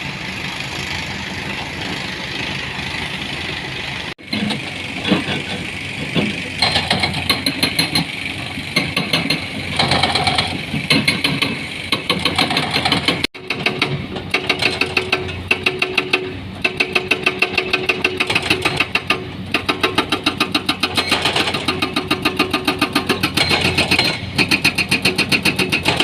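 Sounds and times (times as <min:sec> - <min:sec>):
heavy machinery engine running: 0:00.0 - 0:26.0
clattering and knocking: 0:04.2 - 0:26.0.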